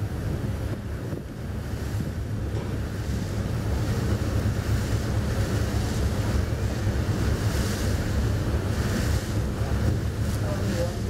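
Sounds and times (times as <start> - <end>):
ship diesel engine rumbling: 0.0 - 11.0
wind buffeting microphone: 0.0 - 11.0.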